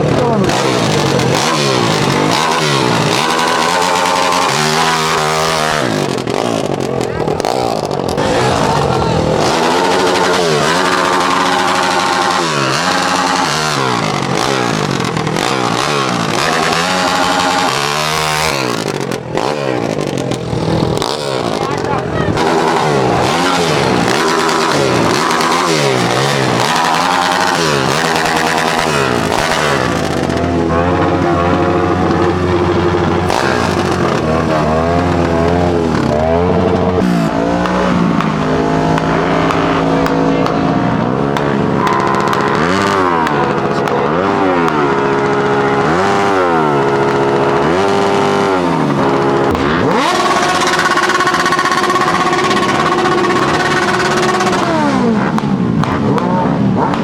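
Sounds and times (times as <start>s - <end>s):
motorcycle engine idling: 0.0s - 57.0s
motorcycle engines revving: 0.0s - 57.0s.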